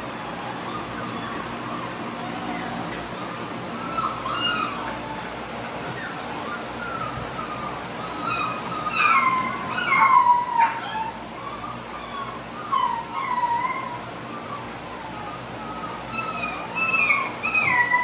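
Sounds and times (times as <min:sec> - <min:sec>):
puppies whining: 0:00.0 - 0:18.0.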